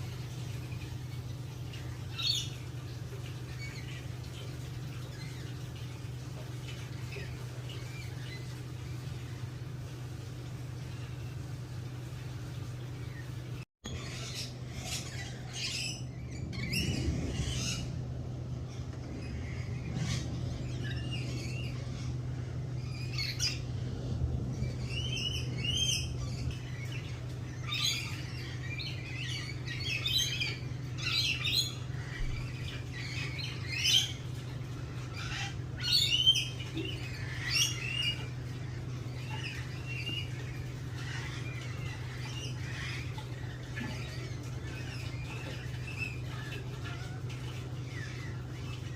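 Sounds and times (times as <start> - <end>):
birds chirping and calling: 0.0 - 11.9, 12.6 - 48.9
steady low hum: 0.0 - 48.9.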